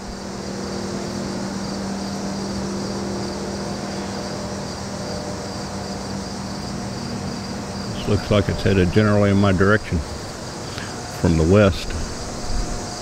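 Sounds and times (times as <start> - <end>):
continuous low hum: 0.0 - 13.0
crickets chirping: 0.0 - 13.0.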